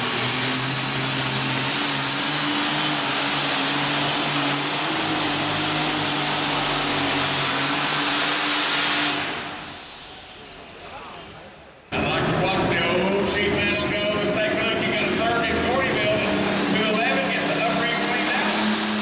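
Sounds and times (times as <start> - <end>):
tractor engine running flat out: 0.0 - 10.6, 11.9 - 19.0.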